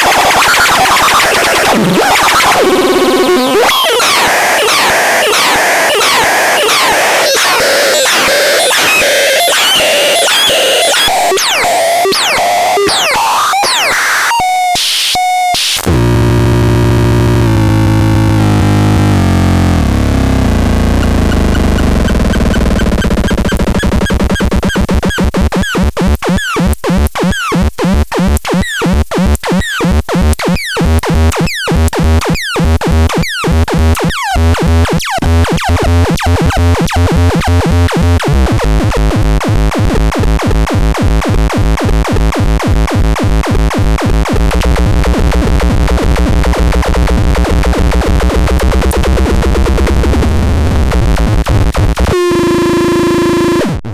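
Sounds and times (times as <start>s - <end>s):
harsh synthesizer noise: 0.0s - 53.9s.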